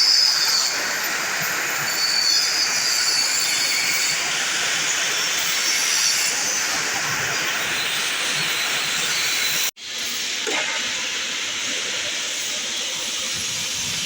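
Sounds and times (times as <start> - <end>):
high-pitched squeal: 0.0 - 14.0
pipe cutting hiss: 0.0 - 14.0.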